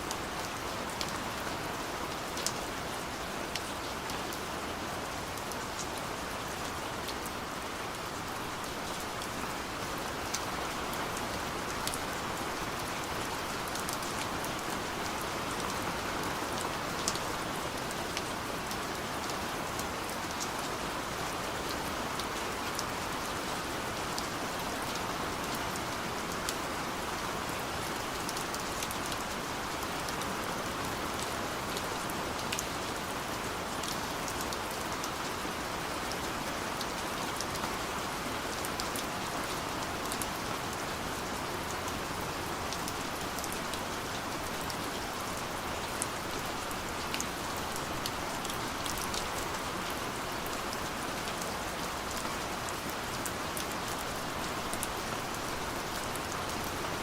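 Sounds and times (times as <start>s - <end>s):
steady rain hiss: 0.0s - 57.0s
rain drops ticking: 0.1s - 57.0s.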